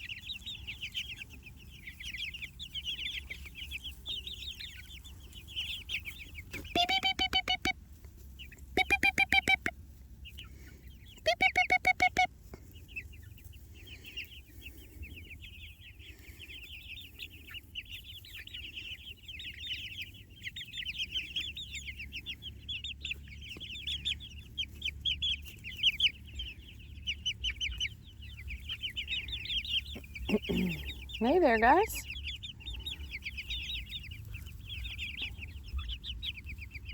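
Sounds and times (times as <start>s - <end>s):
chickens peeping: 0.0s - 36.9s
rapid lower chicken calls: 0.0s - 36.9s.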